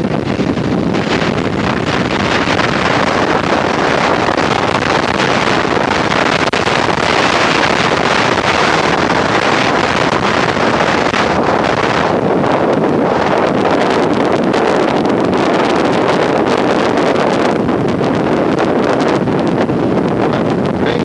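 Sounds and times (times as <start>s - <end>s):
wind blasting microphone: 0.0s - 21.0s.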